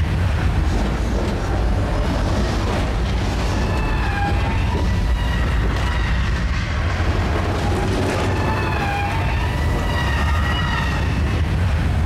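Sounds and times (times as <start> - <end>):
heavy low rumble: 0.0 - 9.9.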